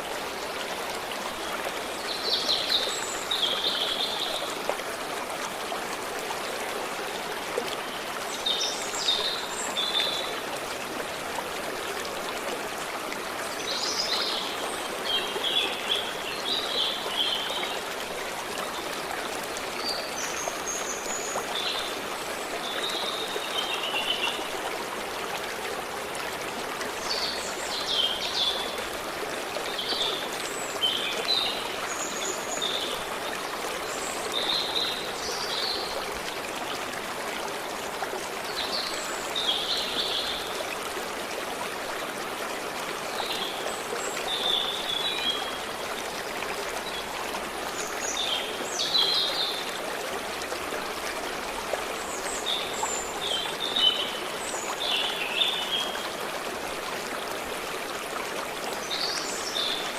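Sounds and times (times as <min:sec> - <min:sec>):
stream water babbling: 0:00.0 - 0:59.9.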